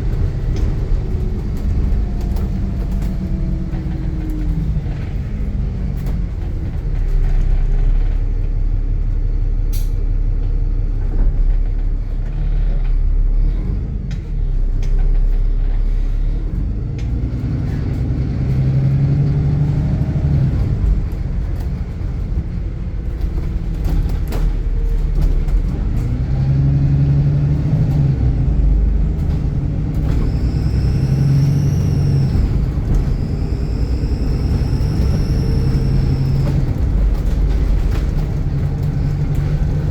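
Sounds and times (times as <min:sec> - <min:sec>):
diesel bus engine running hard: 0:00.0 - 0:39.9.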